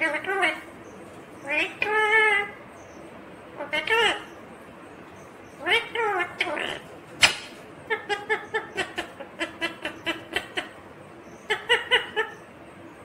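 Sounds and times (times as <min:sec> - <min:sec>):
parakeet calling: 0:00.0 - 0:12.6.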